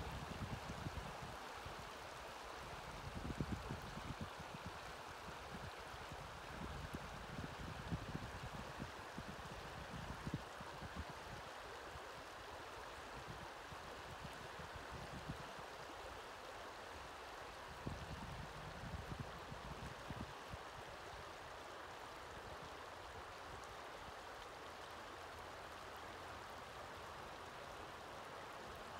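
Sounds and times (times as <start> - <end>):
river water burbling over cobbles: 0.0 - 28.9.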